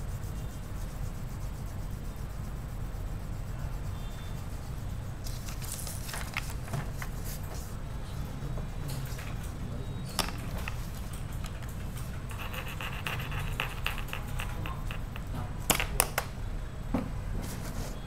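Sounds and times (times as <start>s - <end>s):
pen rubbing on paper: 0.0s - 9.6s, 10.3s - 15.4s.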